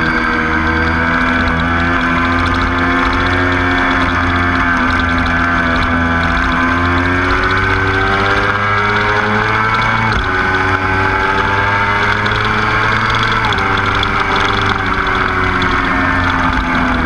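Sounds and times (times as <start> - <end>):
motorcycle engine running hard: 0.0 - 17.0.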